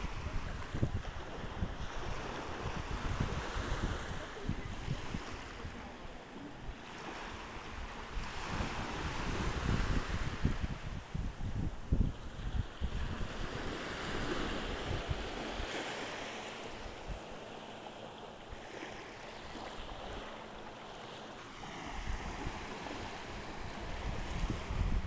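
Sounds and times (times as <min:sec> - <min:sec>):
wind buffeting microphone: 0:00.0 - 0:17.5, 0:19.4 - 0:25.0
small waves washing over sand: 0:00.0 - 0:25.0.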